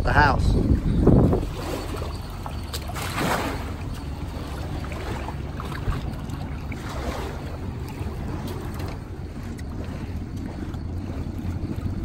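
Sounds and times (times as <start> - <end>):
jet ski engine idling: 0.1 - 12.0
water washing: 0.9 - 12.0.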